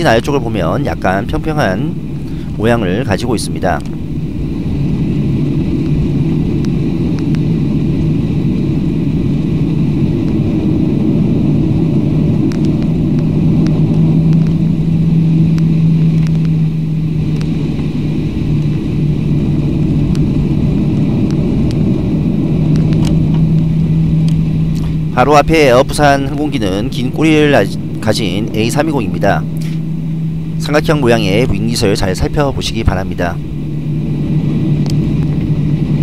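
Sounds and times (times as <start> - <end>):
aircraft engines rumbling: 0.0 - 36.0
low hum: 0.0 - 36.0.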